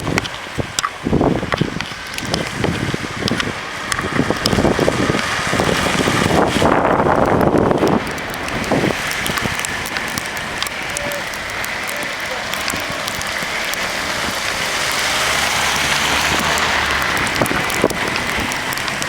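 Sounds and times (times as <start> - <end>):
sharp clicks: 0.0 - 19.0
wind buffeting microphone: 0.0 - 19.0.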